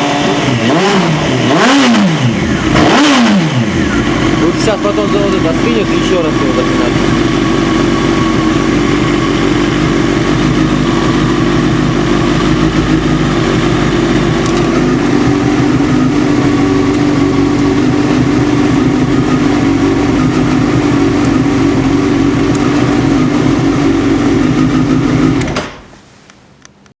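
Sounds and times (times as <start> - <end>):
motorcycle engine idling: 0.0 - 25.4.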